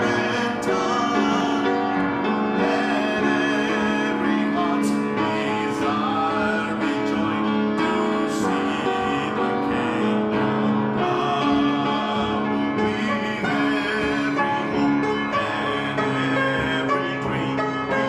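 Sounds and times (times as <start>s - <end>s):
voices singing: 0.0s - 18.0s
worship band with keyboard: 0.0s - 18.0s.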